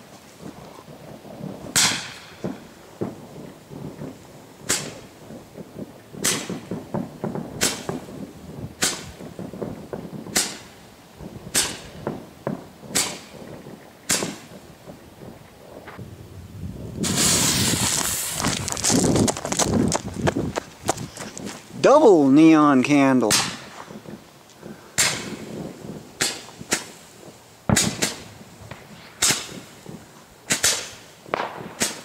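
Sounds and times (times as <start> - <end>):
firework hiss: 0.0 - 32.0
roman candle firework pops: 0.4 - 16.0, 17.0 - 21.6, 23.2 - 32.0.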